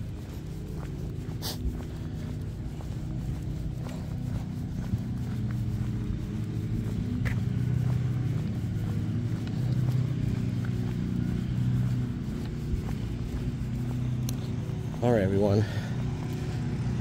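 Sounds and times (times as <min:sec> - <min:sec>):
road traffic engine hum: 0:00.0 - 0:17.0
vehicles passing: 0:00.0 - 0:17.0.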